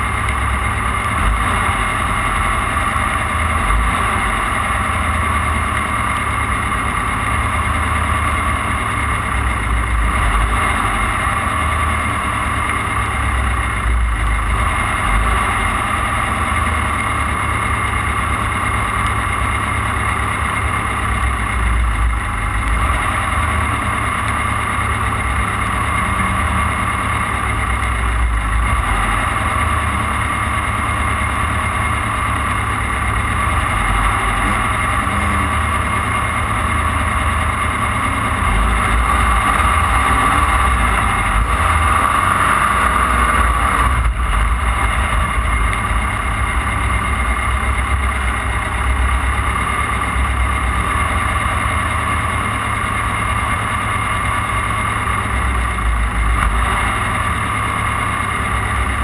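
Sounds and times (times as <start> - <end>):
heavy low rumble: 0.0 - 59.0
race car engine drone: 0.0 - 59.0.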